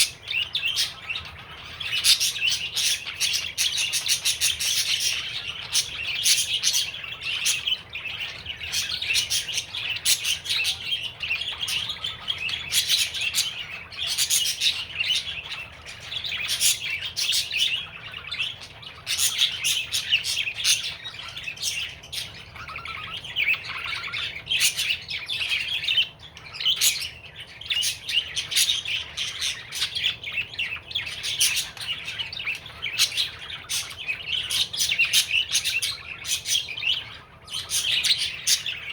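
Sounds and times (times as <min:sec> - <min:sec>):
budgerigar chattering and warbling: 0:00.0 - 0:38.9.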